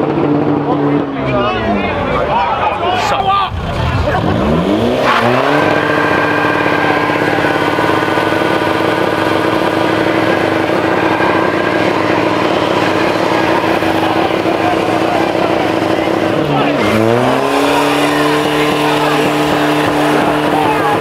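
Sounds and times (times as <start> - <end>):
car engine at high revs: 0.0 - 2.4, 3.0 - 21.0.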